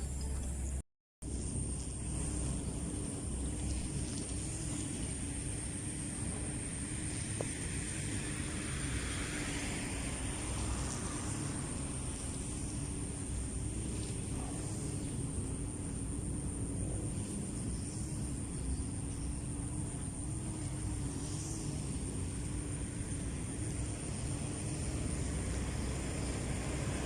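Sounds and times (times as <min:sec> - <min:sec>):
low wind rumble: 0:00.0 - 0:27.0
steady high hiss: 0:00.0 - 0:27.0
grass cutter engine droning: 0:01.3 - 0:27.0.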